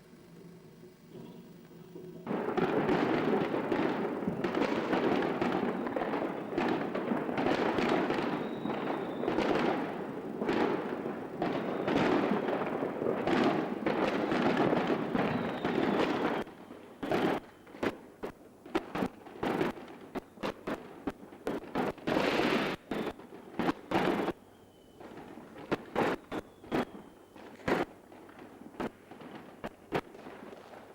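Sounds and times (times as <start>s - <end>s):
fireworks crackling and popping: 0.0s - 30.9s
firework bangs: 2.2s - 24.4s, 25.0s - 30.9s.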